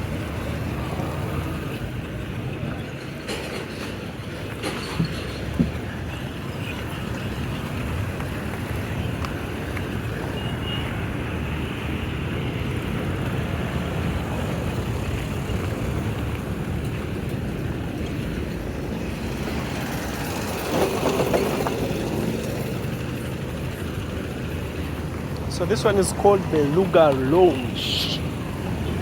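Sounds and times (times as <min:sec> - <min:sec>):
road noise: 0:00.0 - 0:29.0
vehicle engine rumble: 0:00.0 - 0:29.0.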